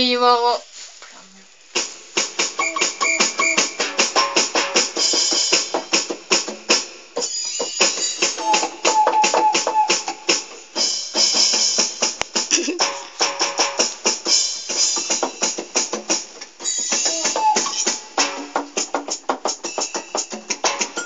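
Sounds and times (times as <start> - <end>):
electronic drum and cymbal hits: 1.7 - 21.0.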